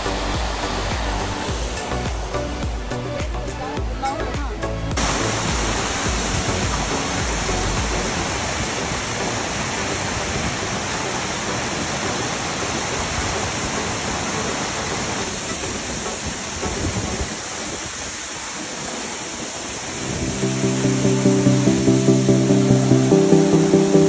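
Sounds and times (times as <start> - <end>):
waterfall crashing onto rocks: 0.0 - 24.0.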